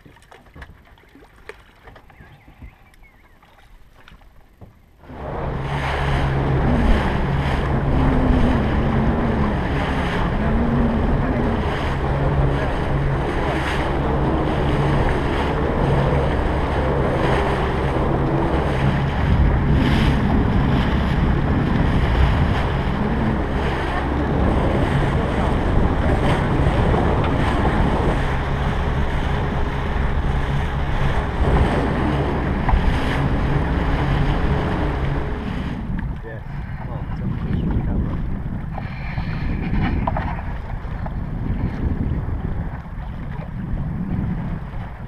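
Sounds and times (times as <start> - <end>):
outboard motor humming: 0.0 - 45.0
water rushing along hull: 0.0 - 45.0
wind buffeting microphone: 2.0 - 45.0.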